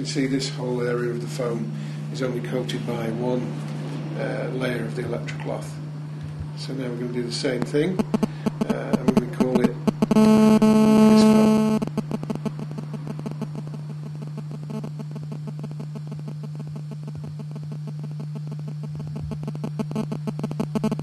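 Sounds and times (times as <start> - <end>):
loud electronic buzz: 0.0 - 21.0
steady low hum: 0.0 - 21.0.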